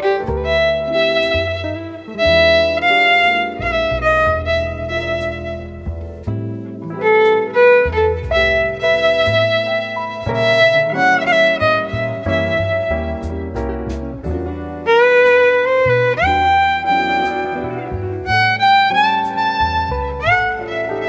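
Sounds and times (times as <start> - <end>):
instrumental music: 0.0 - 21.0.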